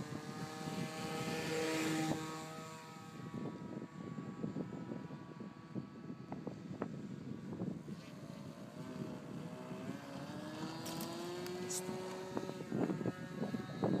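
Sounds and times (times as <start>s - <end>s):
model plane motor rising pitch: 0.0s - 14.0s
wind buffeting microphone: 0.0s - 14.0s.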